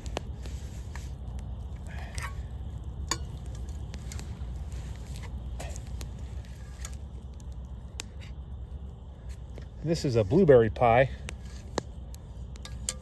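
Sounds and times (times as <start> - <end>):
campfire crackling and popping: 0.0 - 13.0
fire low rumble: 0.0 - 13.0.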